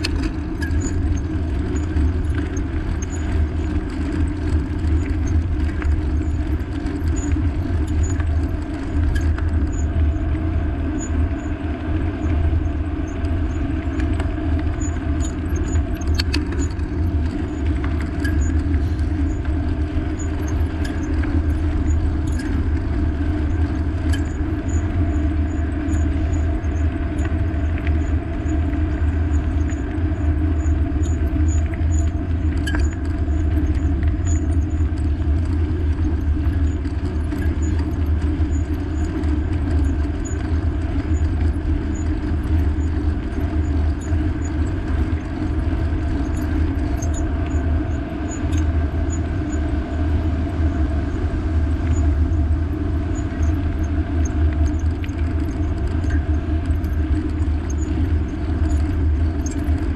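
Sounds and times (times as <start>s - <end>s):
faint hum: 0.0s - 59.9s
wind and road noise: 0.0s - 59.9s.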